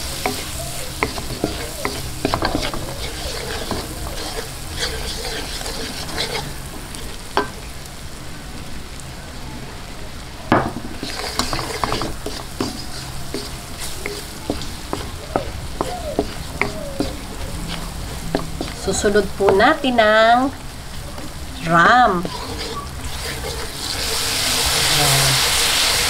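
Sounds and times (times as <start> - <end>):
wooden spoon scraping a pan: 0.0 - 7.5, 10.9 - 26.0
food sizzling in butter: 0.0 - 9.0, 10.5 - 26.0.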